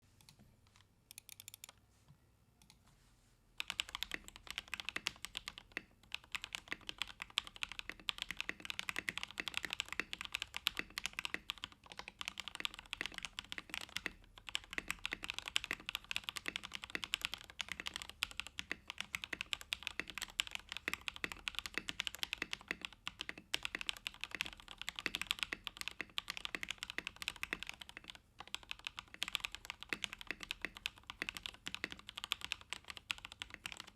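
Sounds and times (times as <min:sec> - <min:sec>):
mechanical keyboard typing: 0:00.7 - 0:01.7, 0:03.6 - 0:33.9.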